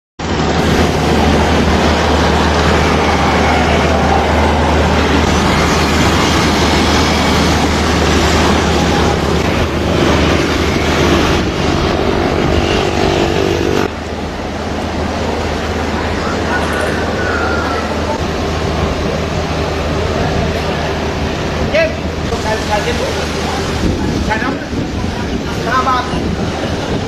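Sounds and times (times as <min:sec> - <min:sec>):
boat engine humming: 0:00.2 - 0:27.0
waterside noise: 0:00.2 - 0:27.0.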